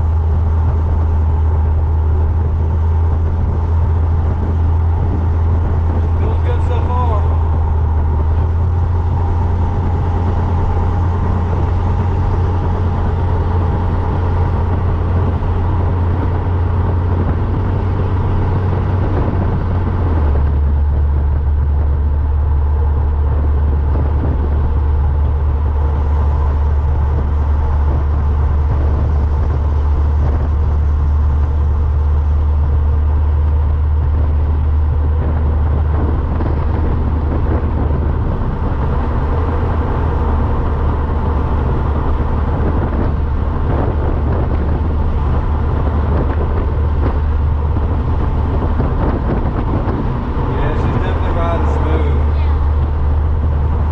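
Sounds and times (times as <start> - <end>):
car engine and exhaust drone: 0.0 - 53.9
road noise: 0.0 - 53.9.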